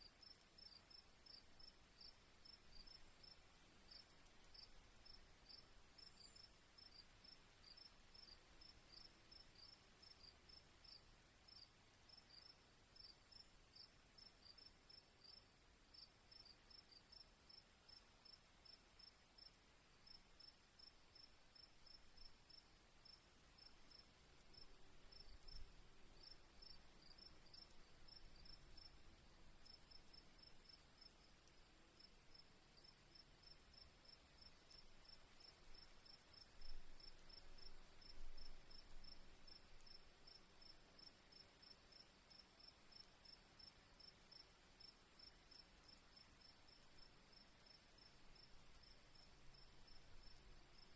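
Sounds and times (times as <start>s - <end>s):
crickets chirping: 0.1s - 50.9s.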